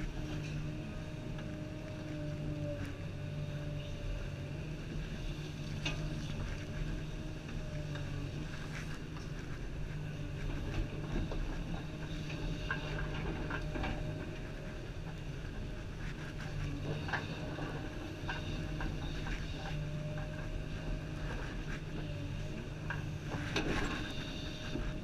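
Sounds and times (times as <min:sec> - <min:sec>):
excavator diesel engine and hydraulics: 0:00.0 - 0:25.0.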